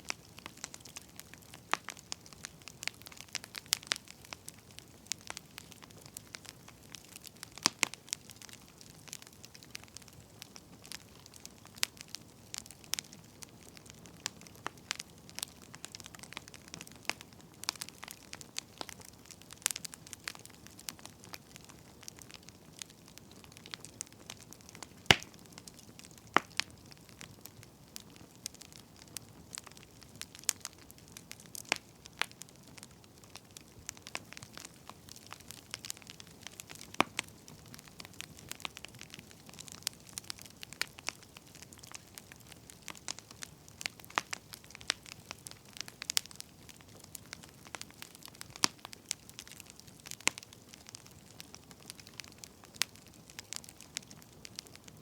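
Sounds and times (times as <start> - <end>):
faint fire hiss: 0.0 - 55.0
wood fire crackling and popping: 0.0 - 55.0.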